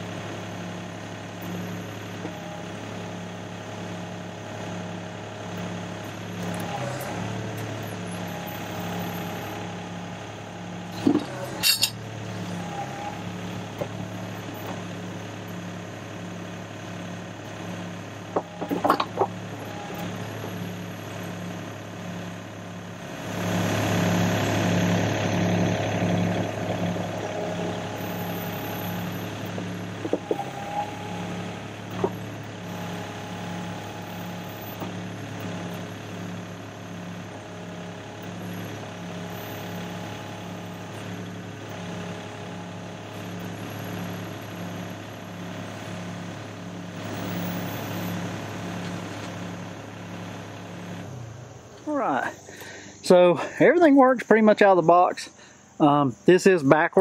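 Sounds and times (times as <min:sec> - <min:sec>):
excavator diesel engine running: 0:00.0 - 0:57.0
hydraulics working: 0:00.1 - 0:57.0.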